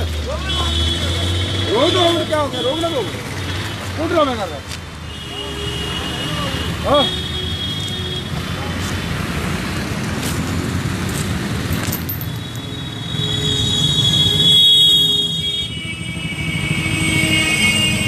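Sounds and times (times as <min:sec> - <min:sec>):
traffic engines and road noise: 0:00.0 - 0:18.0.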